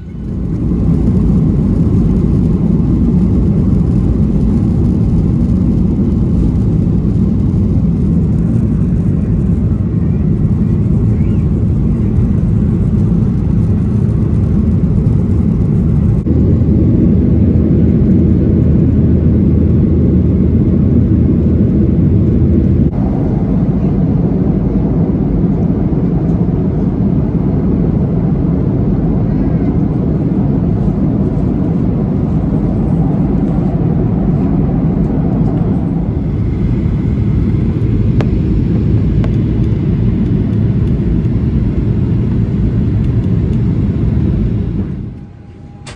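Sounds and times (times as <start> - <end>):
airliner cabin engine roar: 0.0 - 45.9.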